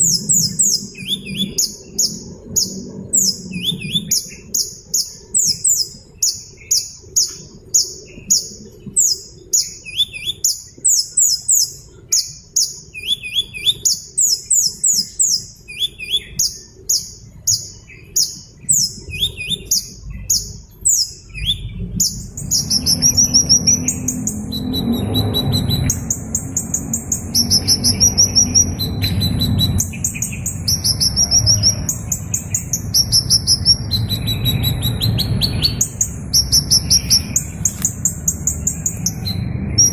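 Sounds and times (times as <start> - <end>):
hummingbird chirping: 0.0 - 39.9
low rumbling noise: 0.0 - 39.9.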